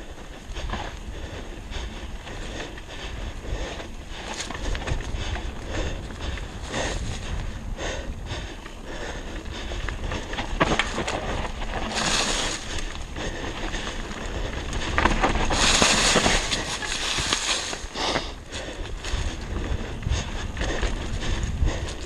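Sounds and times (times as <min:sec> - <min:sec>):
bike tyres crunching over leaves: 0:00.0 - 0:07.7, 0:09.4 - 0:22.0
bike rattling over bumps: 0:00.0 - 0:22.0
wind on microphone: 0:00.0 - 0:22.0.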